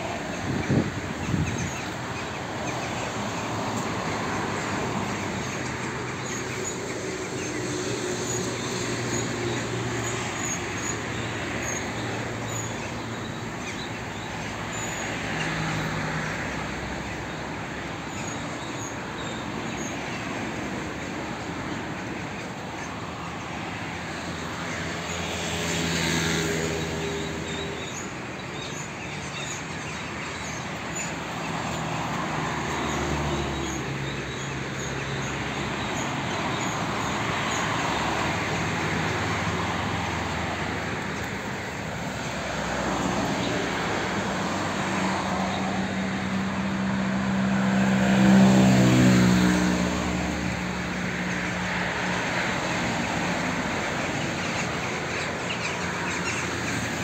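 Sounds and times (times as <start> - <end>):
motor vehicle traffic: 0.0 - 57.0.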